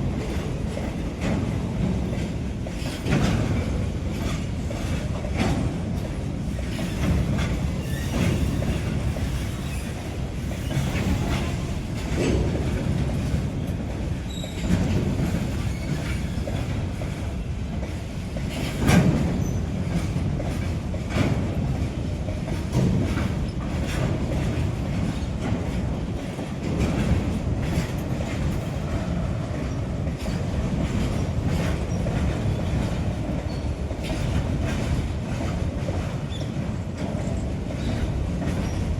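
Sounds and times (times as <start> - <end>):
wheels clattering over rail joints: 0.2 - 38.9.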